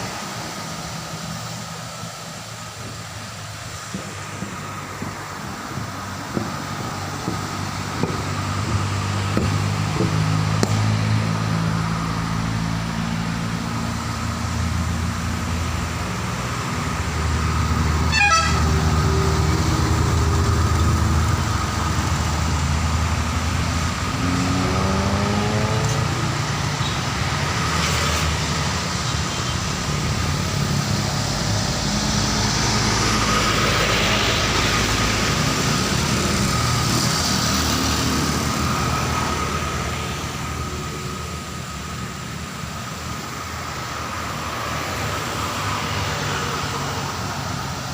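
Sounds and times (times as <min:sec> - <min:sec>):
diesel trucks and buses passing: 0:00.0 - 0:47.9.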